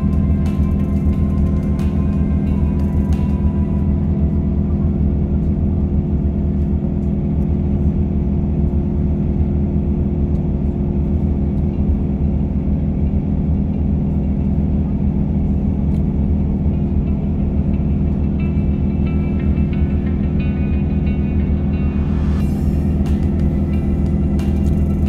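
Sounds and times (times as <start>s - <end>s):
coach engine hum and road rumble: 0.0s - 25.0s.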